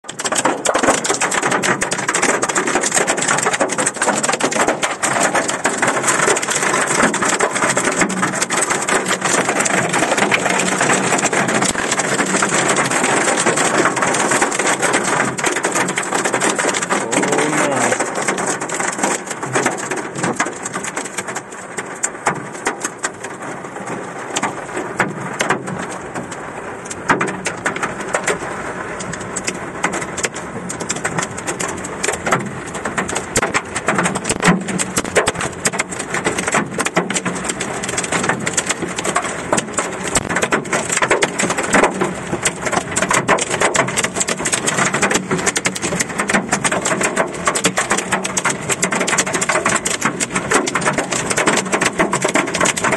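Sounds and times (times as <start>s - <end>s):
hail and rain hitting car roof: 0.0s - 52.9s.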